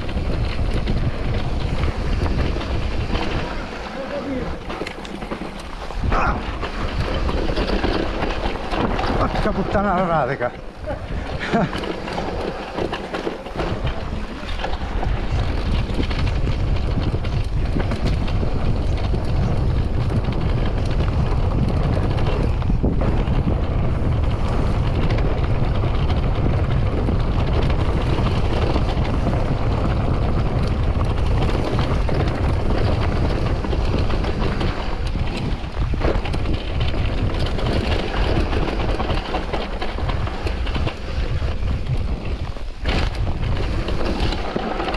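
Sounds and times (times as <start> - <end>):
bike knocking and rattling: 0.0 - 44.9
wind rumbling on microphone: 0.0 - 44.9.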